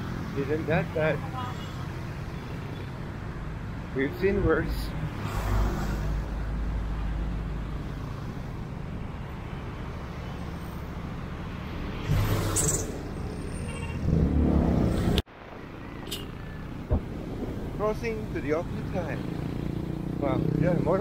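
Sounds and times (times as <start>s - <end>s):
cars and scooters passing: 0.0s - 21.0s.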